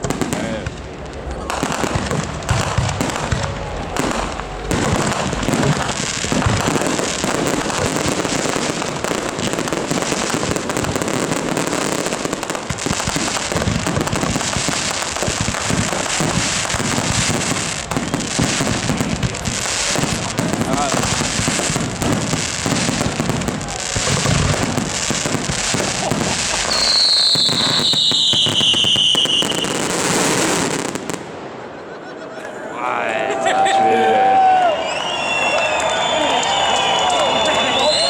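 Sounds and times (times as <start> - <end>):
fireworks popping and banging: 0.0 - 31.4, 34.4 - 38.0.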